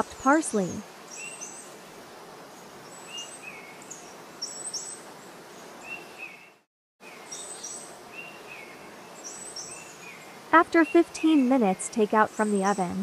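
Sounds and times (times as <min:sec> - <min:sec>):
small birds chirping: 0:00.0 - 0:01.8, 0:02.6 - 0:13.0
steady background hiss: 0:00.0 - 0:13.0.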